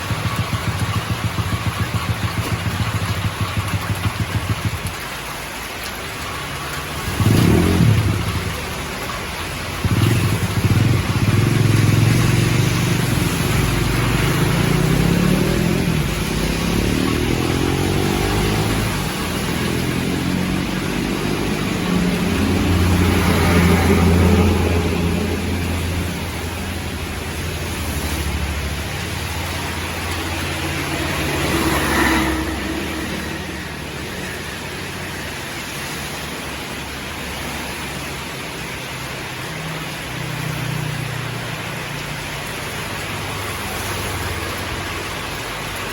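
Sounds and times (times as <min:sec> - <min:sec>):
vehicle engine running: 0:00.0 - 0:38.1
heavy rain hiss: 0:00.0 - 0:45.9.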